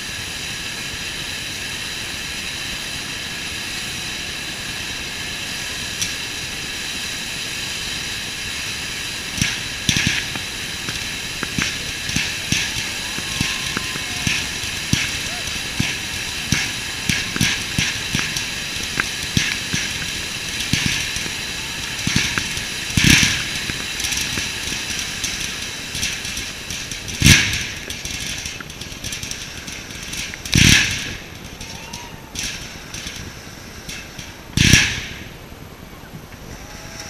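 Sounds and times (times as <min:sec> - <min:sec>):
firework fountain hissing and crackling: 0:00.0 - 0:37.0.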